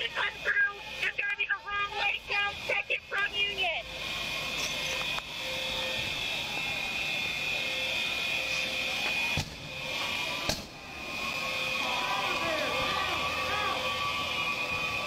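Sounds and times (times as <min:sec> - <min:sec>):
high-pitched electronic alarms: 0:00.0 - 0:15.0.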